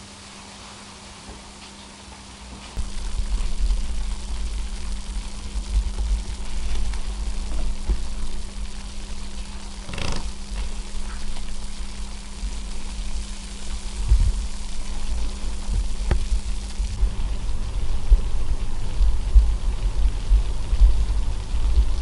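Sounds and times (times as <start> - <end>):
steady low hum: 0.0 - 22.0
bath water lapping in a tub: 2.8 - 22.0.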